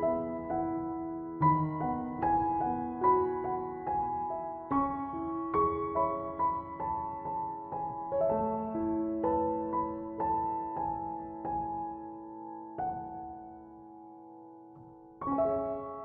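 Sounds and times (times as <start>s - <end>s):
soft slow piano music: 0.0s - 16.0s.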